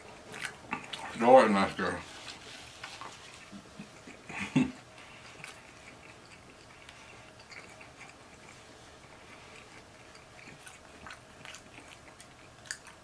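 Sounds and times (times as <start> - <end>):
person chewing with wet clicks: 0.0 - 1.2, 2.8 - 13.0.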